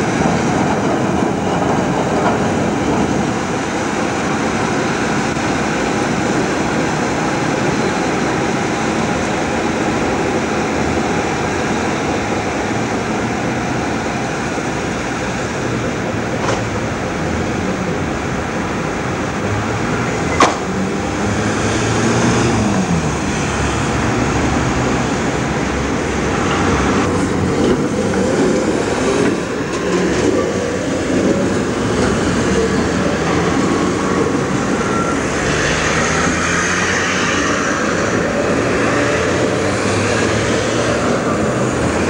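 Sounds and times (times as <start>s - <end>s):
rumble of wheels on track: 0.0s - 42.0s.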